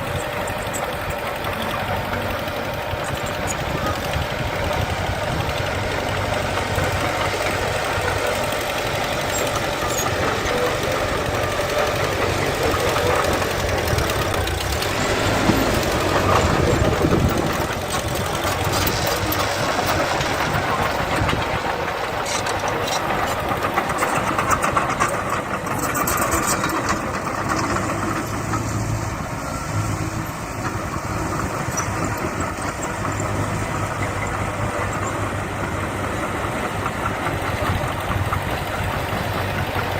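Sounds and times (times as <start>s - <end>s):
diesel earthmoving machinery running: 0.0s - 39.9s
sharp clicks and rattles: 0.0s - 39.9s.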